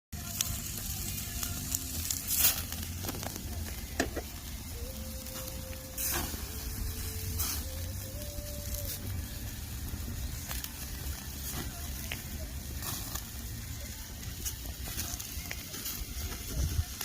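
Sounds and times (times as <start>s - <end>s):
fire pops and crackles: 0.2s - 17.0s
patty sizzling on a grill: 0.2s - 17.0s.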